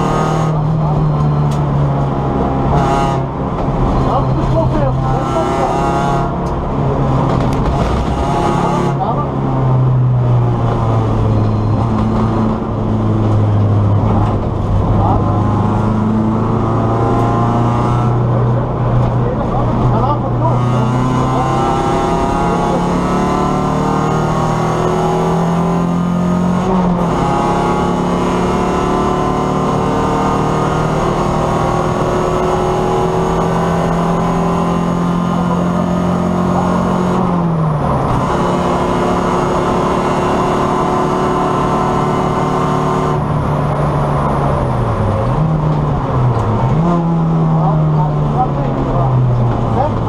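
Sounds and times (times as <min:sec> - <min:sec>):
car engine at high revs: 0:00.0 - 0:50.0.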